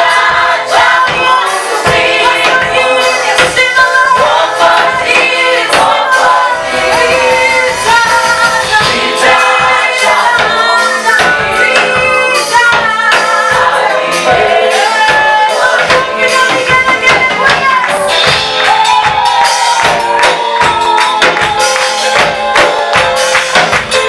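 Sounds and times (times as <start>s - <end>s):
choir singing a gospel song: 0.0s - 23.8s
steady percussion: 0.0s - 24.0s.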